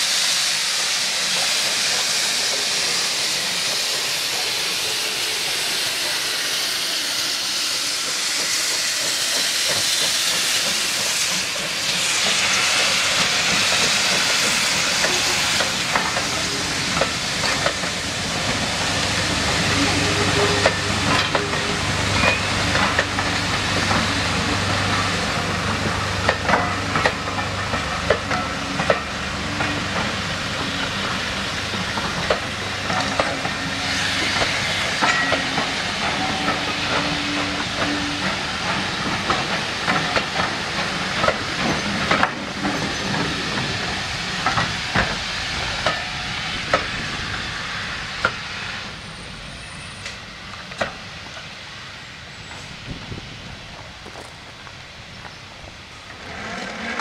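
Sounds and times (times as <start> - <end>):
steady steam hiss: 0.0 - 57.0
train wheels clicking over rail joints: 0.2 - 51.6, 52.4 - 57.0.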